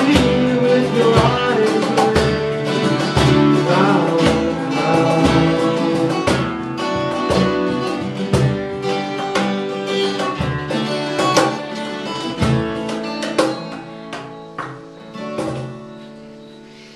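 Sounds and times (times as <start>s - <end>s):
acoustic guitars playing: 0.0s - 16.9s.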